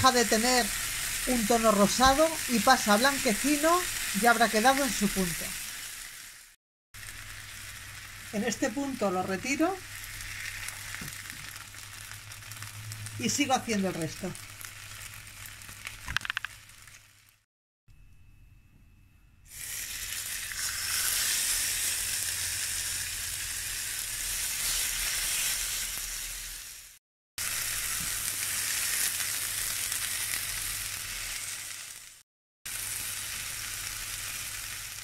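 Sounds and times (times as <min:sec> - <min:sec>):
fish sizzling in oil: 0:00.0 - 0:17.5, 0:19.5 - 0:35.0.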